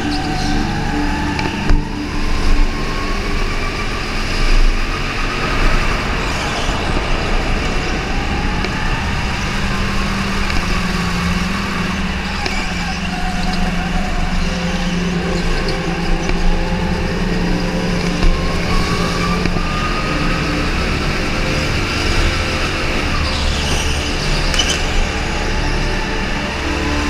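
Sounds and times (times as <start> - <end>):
go-kart engine droning: 0.0 - 27.0.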